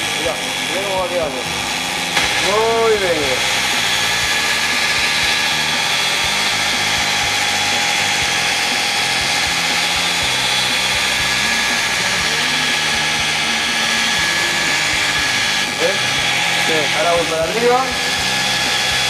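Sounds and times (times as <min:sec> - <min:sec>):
electric polisher whining: 0:00.0 - 0:19.0.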